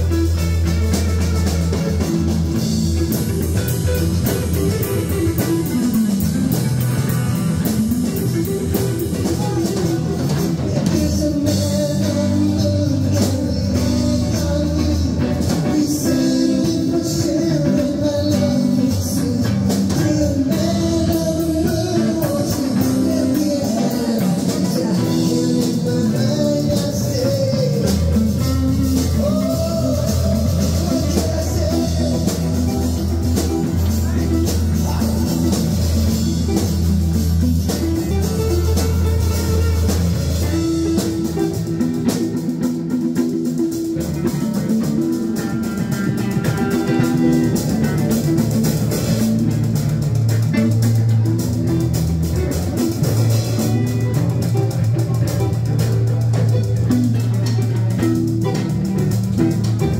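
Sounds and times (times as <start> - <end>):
live rock band playing: 0.0 - 59.9
strong bass line: 0.0 - 59.9.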